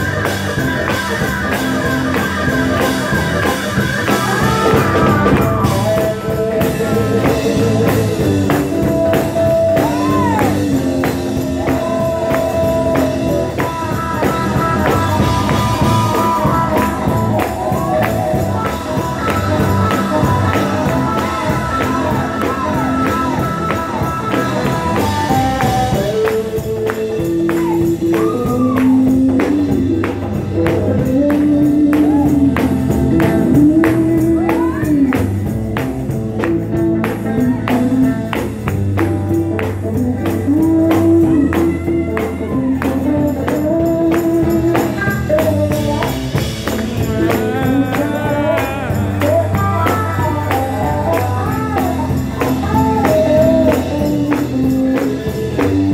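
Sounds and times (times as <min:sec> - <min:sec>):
driving drum beat: 0:00.0 - 0:55.9
gospel band playing: 0:00.0 - 0:55.9.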